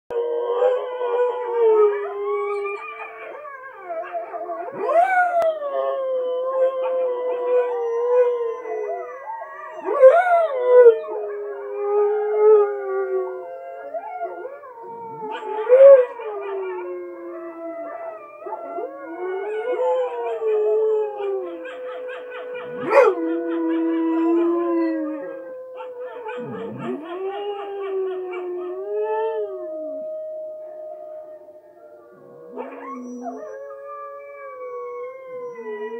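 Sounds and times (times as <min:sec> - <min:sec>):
dog howling: 0:00.1 - 0:35.9
wolves howling on television: 0:00.1 - 0:35.9.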